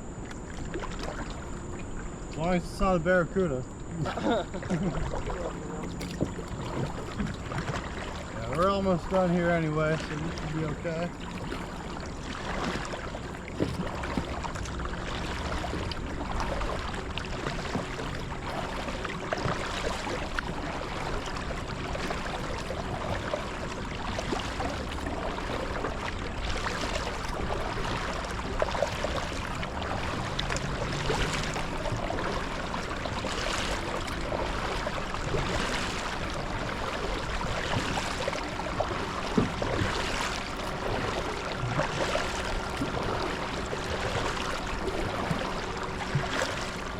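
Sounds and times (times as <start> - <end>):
paddle splashing water: 0.0 - 46.9.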